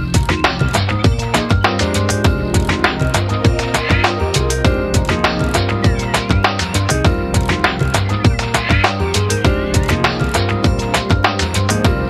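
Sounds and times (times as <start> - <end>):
music with fast beat: 0.0 - 12.0.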